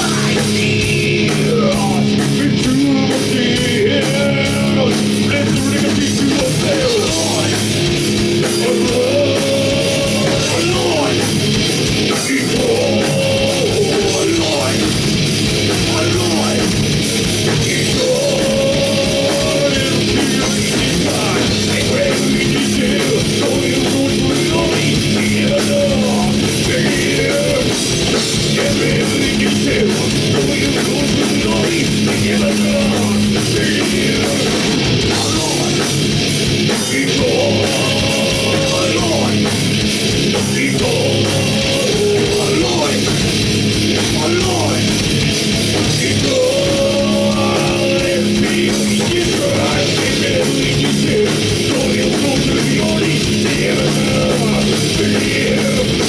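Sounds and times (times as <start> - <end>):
distorted electric guitars: 0.0 - 56.0
drums: 0.0 - 56.0.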